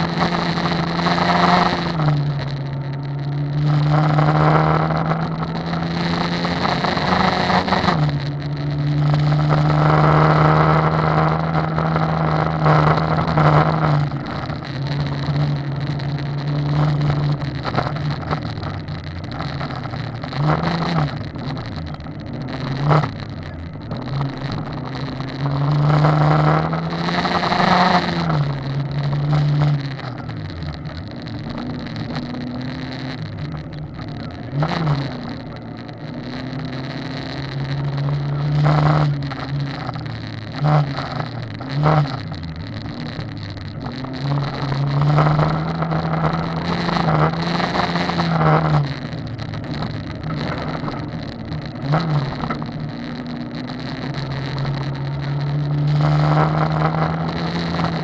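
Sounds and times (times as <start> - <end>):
car engine accelerating: 0.0 - 58.0
tyres rumbling on gravel: 0.0 - 58.0.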